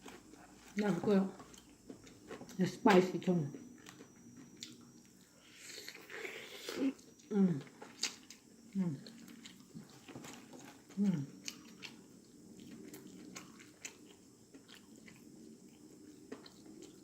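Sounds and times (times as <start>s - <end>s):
chewing and crunching fried chicken: 0.0s - 17.0s.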